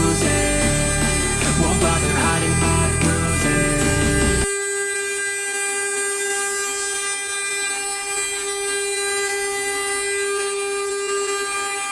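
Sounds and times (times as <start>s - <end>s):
router spindle motor whining: 0.0s - 11.9s.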